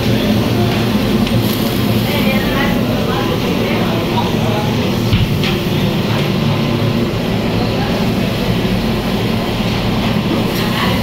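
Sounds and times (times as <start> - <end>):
kitchen equipment roaring: 0.0 - 11.0.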